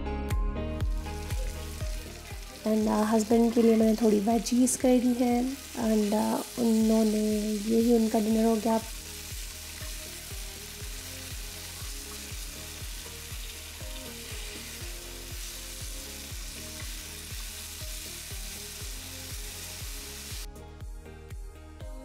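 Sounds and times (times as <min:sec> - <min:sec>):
background music with low beat: 0:00.0 - 0:06.1, 0:08.9 - 0:22.0
vegetables sizzling in a frying pan: 0:00.8 - 0:20.5.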